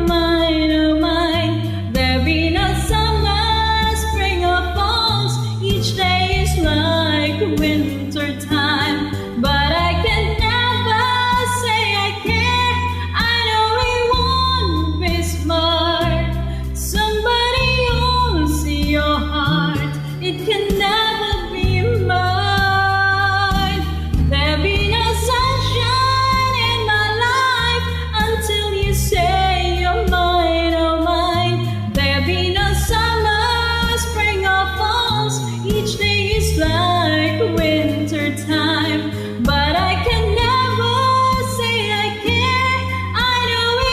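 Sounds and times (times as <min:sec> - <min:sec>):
backing track with bass line: 0:00.0 - 0:43.9
woman singing pop ballad: 0:00.0 - 0:43.9.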